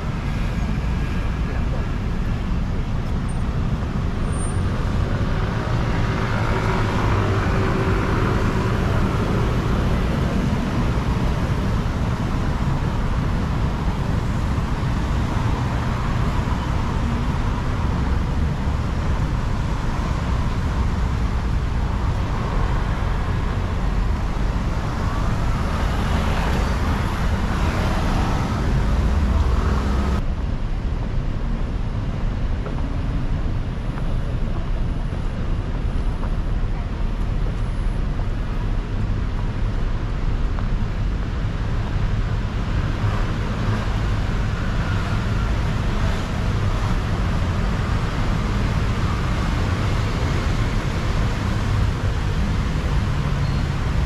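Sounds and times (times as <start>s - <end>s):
rumble of cars: 0.0s - 54.0s.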